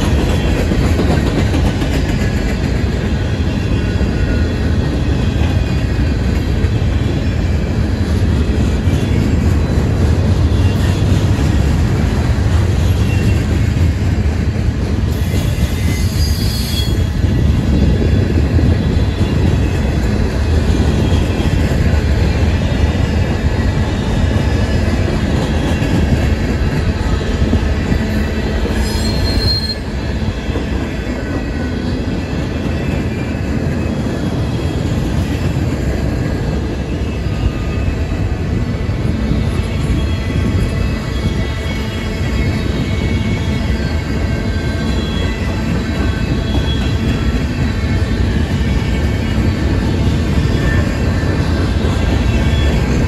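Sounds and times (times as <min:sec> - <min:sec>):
freight train wheels rumbling: 0:00.0 - 0:53.0
train wheel squeal: 0:00.0 - 0:53.0.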